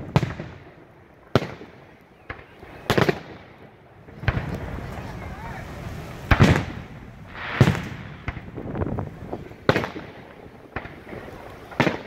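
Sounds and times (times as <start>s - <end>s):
firework cracks and pops: 0.0s - 12.0s
firework shells booming: 0.0s - 12.0s.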